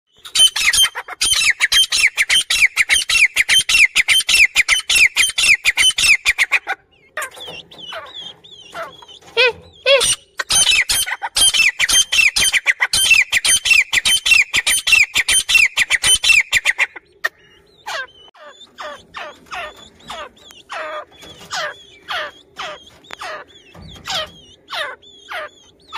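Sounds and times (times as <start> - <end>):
soft bird chirps: 0.1 - 25.9.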